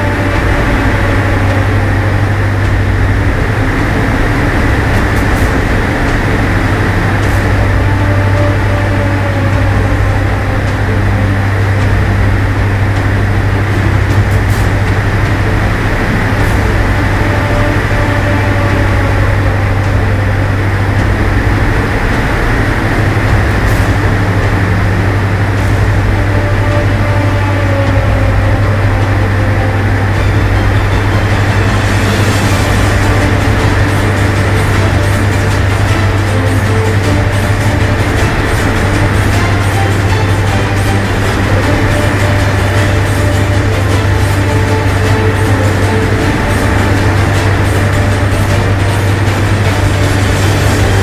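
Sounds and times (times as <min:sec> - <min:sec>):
airflow noise: 0:00.0 - 0:51.0
propeller engines droning: 0:00.0 - 0:51.0.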